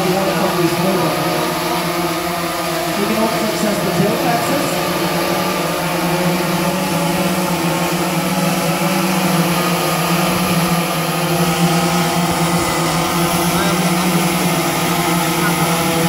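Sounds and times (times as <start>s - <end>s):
drone propellers buzzing hum: 0.0s - 16.0s.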